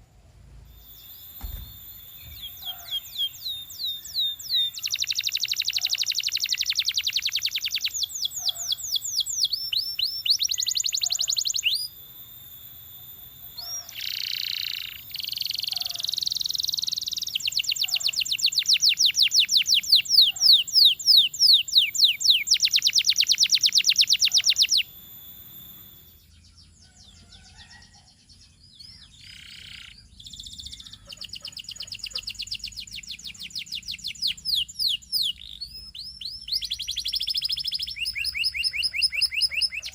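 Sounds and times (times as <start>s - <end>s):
canary singing rapid trills: 0.7s - 39.9s.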